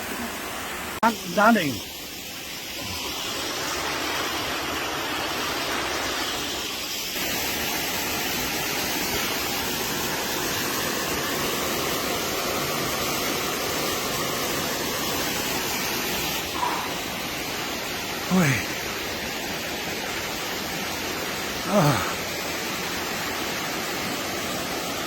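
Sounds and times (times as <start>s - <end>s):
waterfall roaring over rocks: 0.0s - 25.0s.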